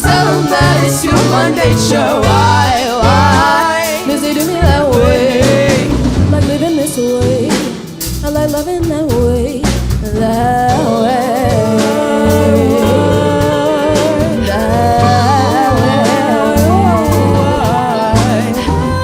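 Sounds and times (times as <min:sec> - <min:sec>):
live pop band playing: 0:00.0 - 0:19.0
person singing: 0:00.0 - 0:19.0.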